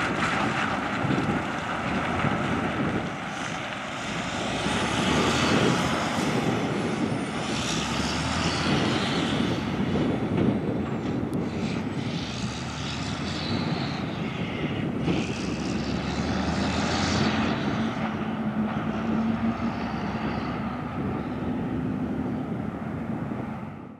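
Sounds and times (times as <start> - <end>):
truck engine and tyres: 0.0 - 23.9.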